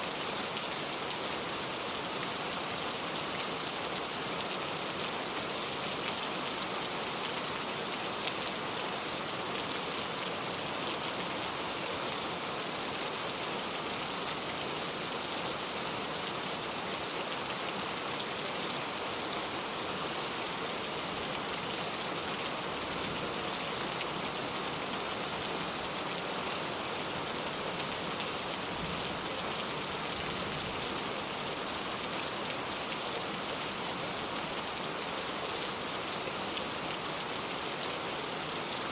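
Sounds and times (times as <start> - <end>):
heavy rain pouring: 0.1 - 38.9.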